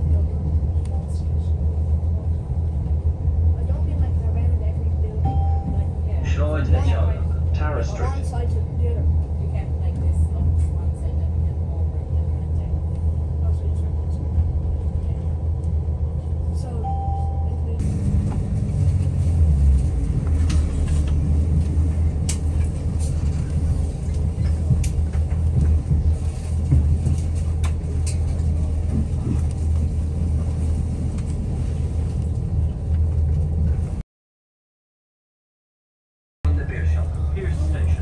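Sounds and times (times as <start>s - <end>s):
diesel train engine humming: 0.0s - 34.0s, 36.5s - 38.0s.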